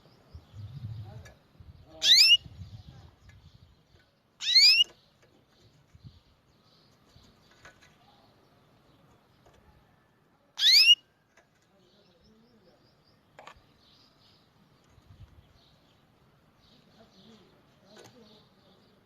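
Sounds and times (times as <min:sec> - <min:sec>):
faint bird chirps: 0:00.0 - 0:15.9.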